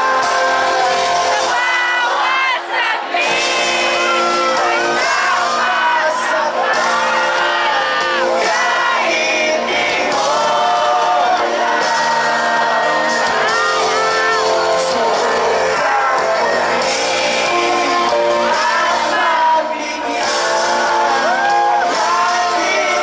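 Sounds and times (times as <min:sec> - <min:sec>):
crowd voices: 0:00.0 - 0:23.0
live pop-rock band: 0:00.0 - 0:23.0
person singing through speakers: 0:00.0 - 0:23.0.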